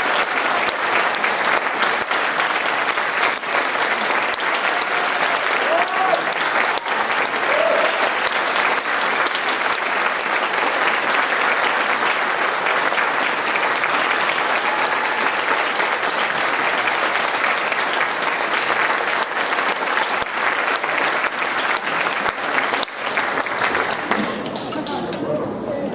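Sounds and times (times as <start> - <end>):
audience applauding: 0.0 - 25.7.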